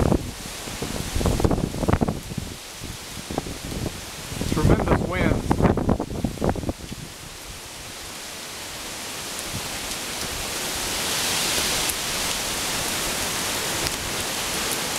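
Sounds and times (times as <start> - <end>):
driving rain: 0.0 - 14.9
hurricane wind: 0.0 - 14.9.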